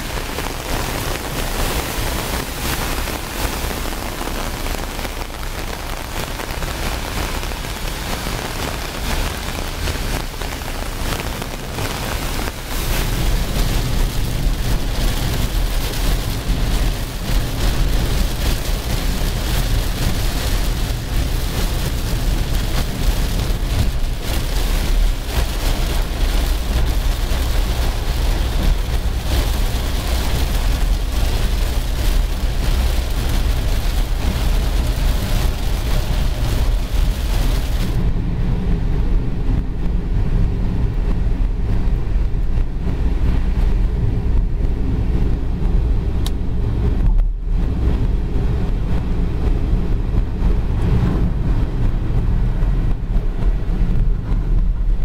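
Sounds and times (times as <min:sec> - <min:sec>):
car driving rumble: 0:00.0 - 0:55.0
heavy rain on car roof: 0:00.0 - 0:55.0.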